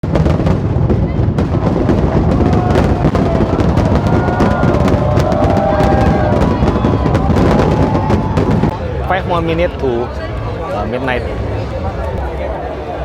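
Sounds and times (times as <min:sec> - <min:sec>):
fireworks bangs and crackles: 0:00.0 - 0:12.3.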